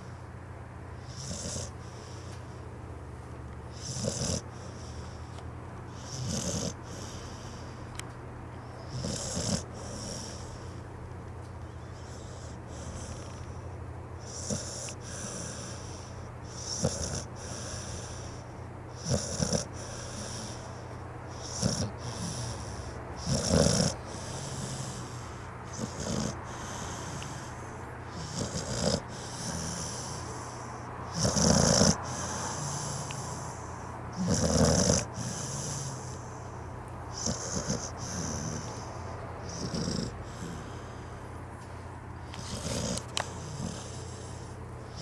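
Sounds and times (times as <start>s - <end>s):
steady low hum: 0.0s - 45.0s
dog snoring: 1.0s - 2.6s, 3.7s - 7.8s, 8.6s - 10.9s, 11.6s - 41.4s, 42.2s - 45.0s.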